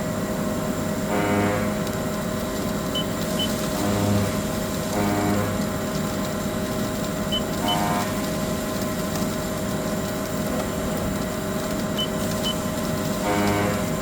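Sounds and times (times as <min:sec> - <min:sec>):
lathe machine hum: 0:00.0 - 0:11.6.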